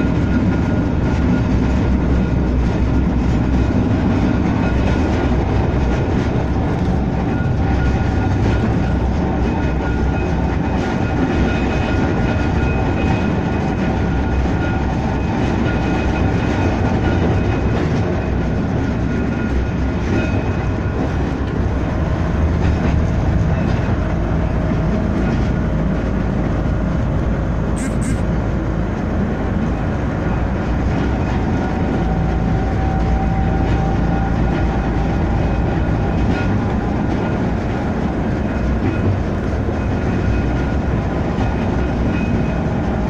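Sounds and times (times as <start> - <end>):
tram wheels rumbling on rail: 0.0 - 43.0.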